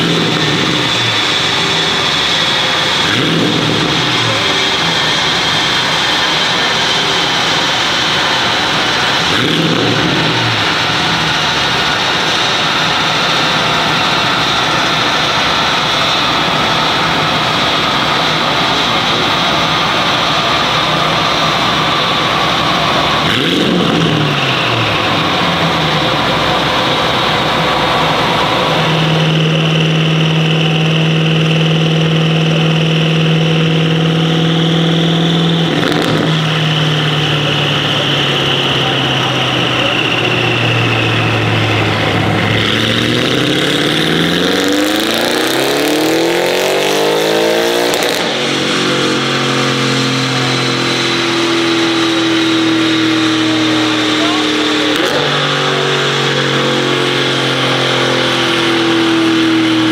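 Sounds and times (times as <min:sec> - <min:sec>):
car engine revving on a dyno: 0:00.0 - 0:59.9.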